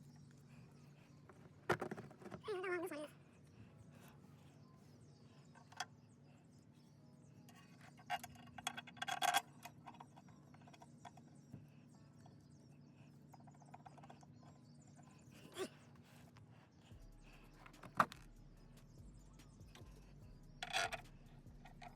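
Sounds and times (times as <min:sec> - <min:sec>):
faint low hum: 0:00.0 - 0:21.9.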